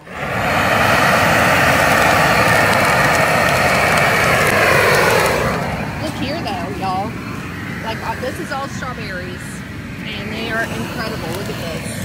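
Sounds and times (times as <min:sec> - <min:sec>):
propane torch flame rushing: 0:00.0 - 0:12.0.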